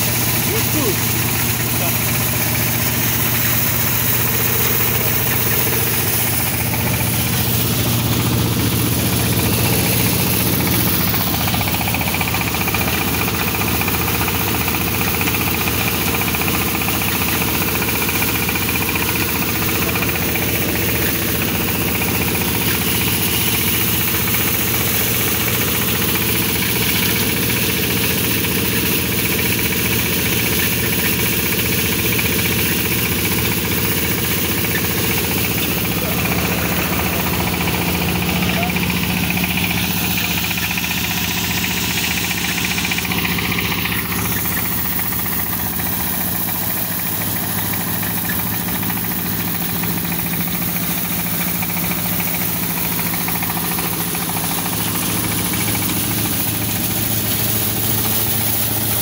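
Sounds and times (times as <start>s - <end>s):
grain thresher engine drone: 0.0s - 59.0s
rushing hiss of threshing: 0.0s - 59.0s.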